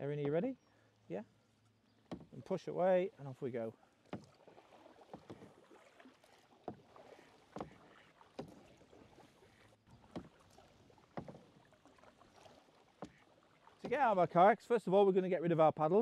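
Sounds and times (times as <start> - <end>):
paddle splashing in water: 0.0 - 14.9.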